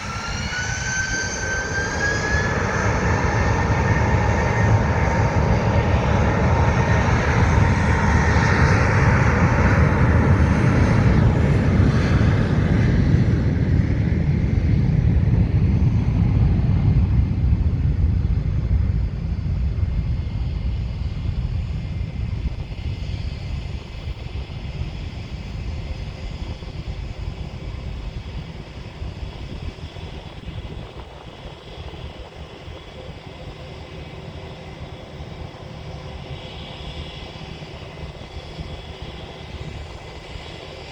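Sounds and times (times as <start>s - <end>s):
airplane engine taking off: 0.0s - 40.9s.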